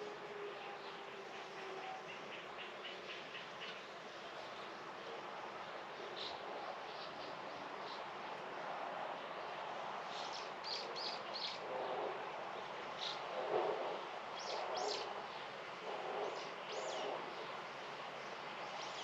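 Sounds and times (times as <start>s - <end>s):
low noisy sounds: 0.0s - 19.0s
steady background hiss: 0.0s - 19.0s.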